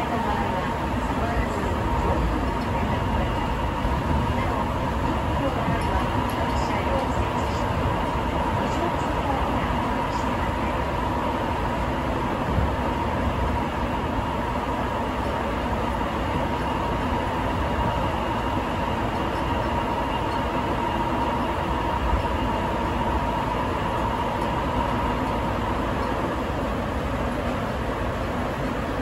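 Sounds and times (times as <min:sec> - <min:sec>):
train running noise with whine: 0:00.0 - 0:29.0.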